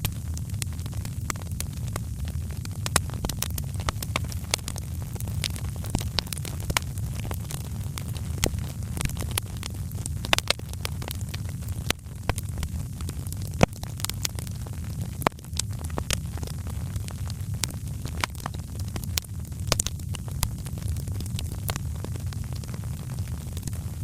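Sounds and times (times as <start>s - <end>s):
fire popping and snapping: 0.0s - 24.0s
wood fire crackling: 0.0s - 24.0s.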